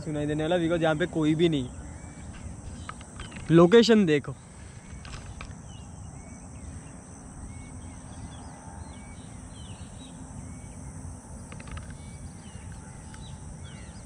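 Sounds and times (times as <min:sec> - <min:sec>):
small birds calling: 0:00.0 - 0:14.0.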